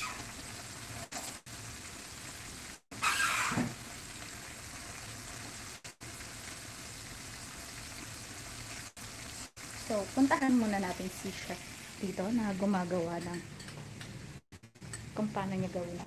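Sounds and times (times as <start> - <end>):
chicken sizzling in hot oil: 0.0 - 15.5.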